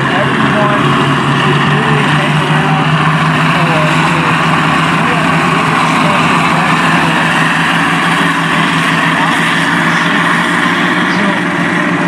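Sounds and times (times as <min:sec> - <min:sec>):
steel tracks clattering: 0:00.0 - 0:12.0
tank engines running: 0:00.0 - 0:12.0.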